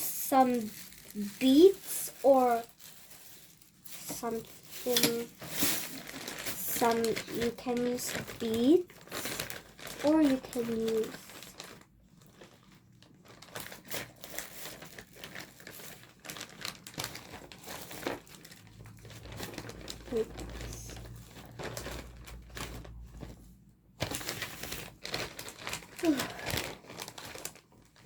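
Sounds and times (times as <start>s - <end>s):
plastic and paper crinkling: 0.0s - 28.0s.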